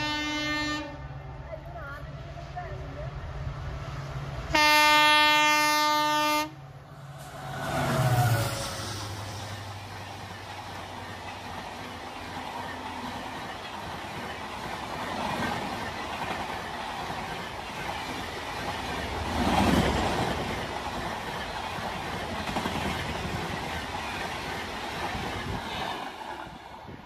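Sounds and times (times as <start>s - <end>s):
train coaches rushing past: 0.0s - 27.0s.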